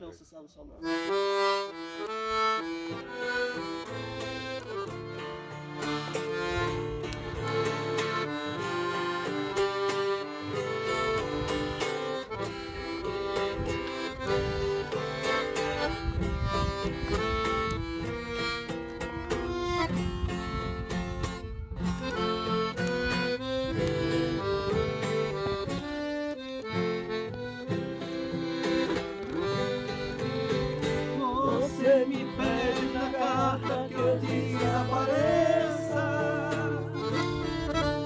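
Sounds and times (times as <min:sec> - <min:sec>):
accordion melody: 0:00.8 - 0:38.0
acoustic guitar accompaniment: 0:00.8 - 0:38.0.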